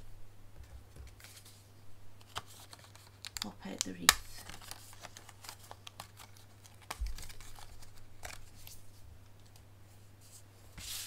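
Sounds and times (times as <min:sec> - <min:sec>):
faint steady hum: 0:00.0 - 0:11.0
paper rustling: 0:00.9 - 0:03.5, 0:04.1 - 0:09.6, 0:10.2 - 0:11.0.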